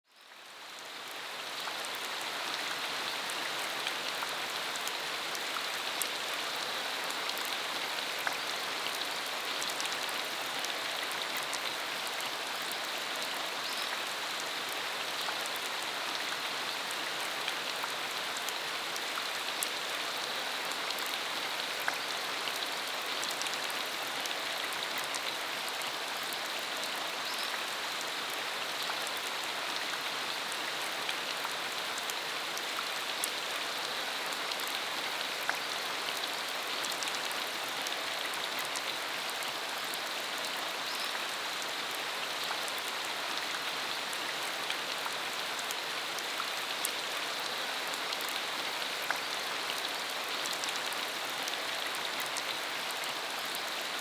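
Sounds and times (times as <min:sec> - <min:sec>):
steady rain falling: 0:00.1 - 0:54.0.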